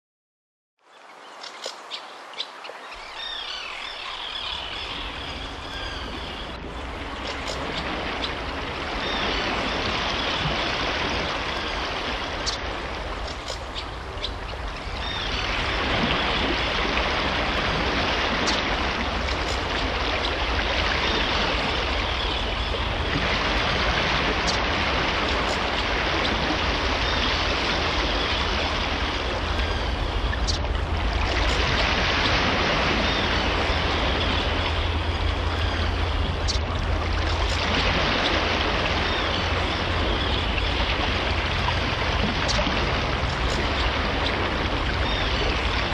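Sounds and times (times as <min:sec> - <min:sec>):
flowing water rushing: 0:00.8 - 0:45.9.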